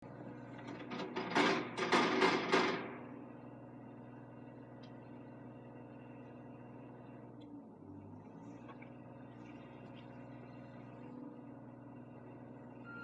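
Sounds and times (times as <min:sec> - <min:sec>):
backhoe engine running: 0:00.0 - 0:13.0.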